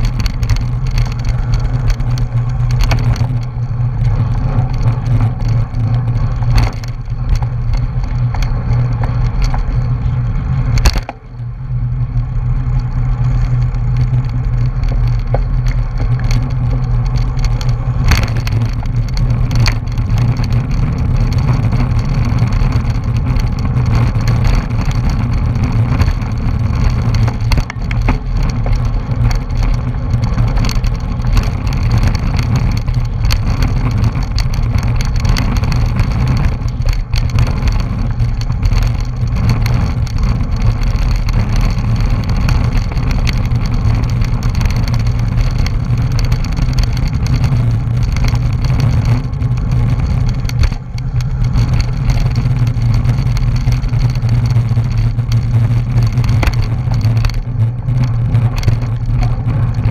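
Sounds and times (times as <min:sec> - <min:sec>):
tyre and road noise: 0:00.0 - 0:59.9
wind buffeting microphone: 0:00.0 - 0:59.9.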